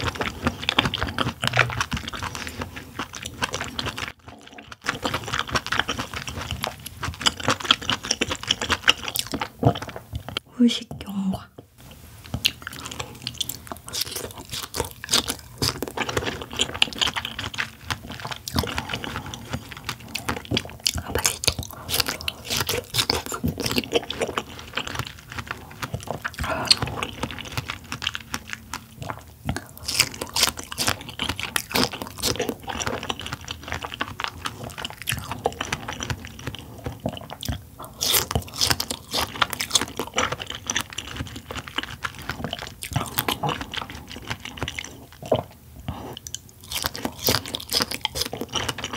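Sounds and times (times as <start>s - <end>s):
soft chewing crunches: 0.0s - 48.9s.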